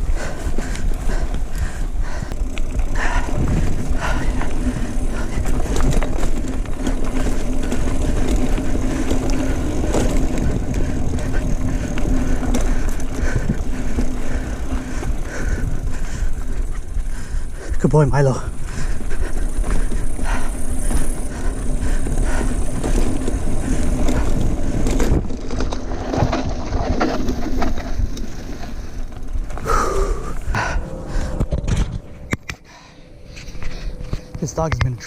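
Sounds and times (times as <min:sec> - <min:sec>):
wind rumble on microphone: 0:00.0 - 0:17.8, 0:18.4 - 0:35.0
bike rattling and knocking: 0:00.0 - 0:32.4
bike tyres on dirt trail: 0:00.0 - 0:35.0.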